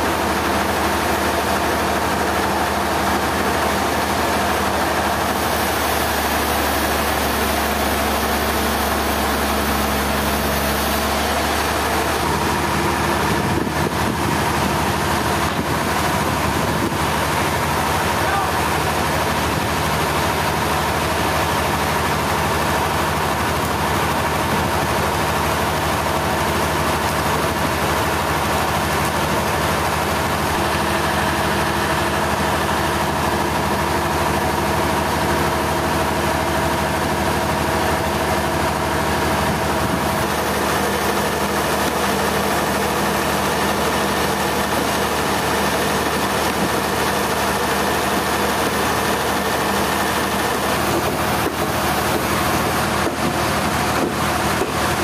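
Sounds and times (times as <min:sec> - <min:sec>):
sawmill machinery drone: 0:00.0 - 0:55.0.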